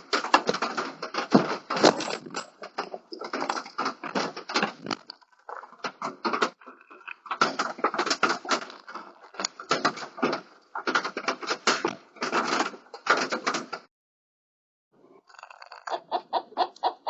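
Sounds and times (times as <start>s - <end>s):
animal crunching and clicking: 0.0s - 13.6s, 15.3s - 16.9s.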